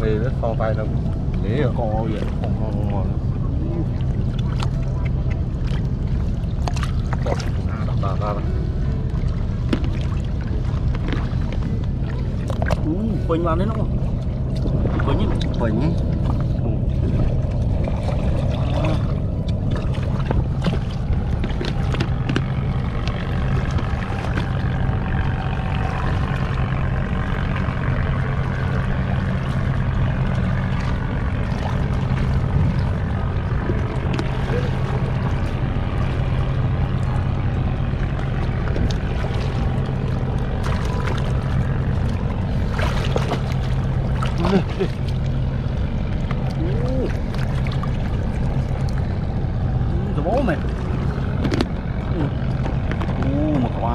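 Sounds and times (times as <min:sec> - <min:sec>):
low engine drone: 0:00.0 - 0:53.9
water splashing and sloshing: 0:00.0 - 0:53.9.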